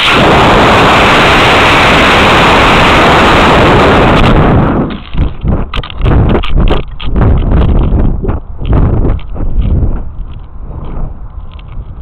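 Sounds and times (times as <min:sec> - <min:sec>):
rocket motor rushing noise: 0:00.0 - 0:12.0.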